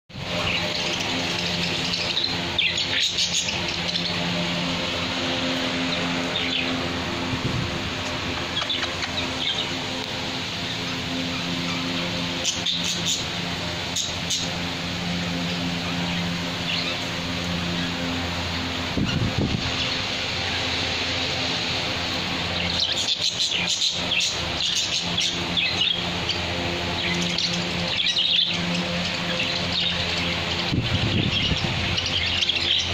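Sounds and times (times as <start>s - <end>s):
caged birds chirping: 0.1s - 32.9s
steady low hum: 0.1s - 32.9s.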